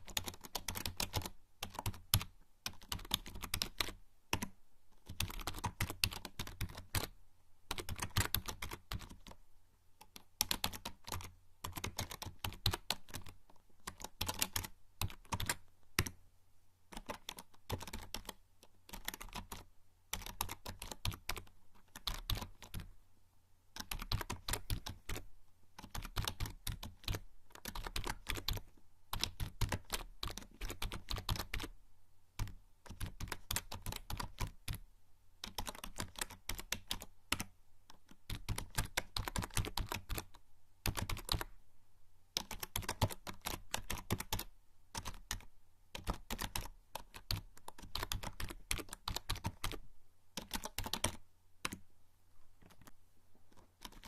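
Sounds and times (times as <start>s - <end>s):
keyboard typing: 0.0s - 9.4s, 10.0s - 16.2s, 16.9s - 22.9s, 23.8s - 31.7s, 32.4s - 34.8s, 35.4s - 41.5s, 42.4s - 49.8s, 50.4s - 51.8s, 52.6s - 54.0s.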